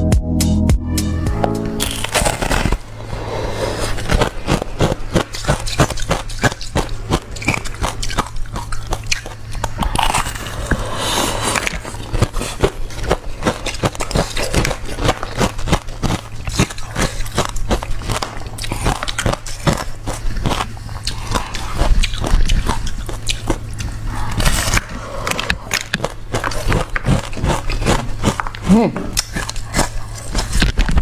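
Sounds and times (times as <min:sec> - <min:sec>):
steady low hum: 0:00.0 - 0:31.0
ice being chewed: 0:01.8 - 0:31.0.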